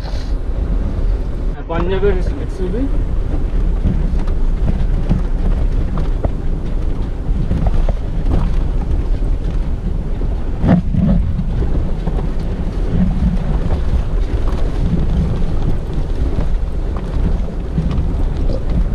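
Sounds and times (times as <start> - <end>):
vehicle rumbling on gravel track: 0.0 - 18.9
wind buffeting microphone: 0.0 - 18.9
knocks and rattles from bumps: 0.6 - 18.9.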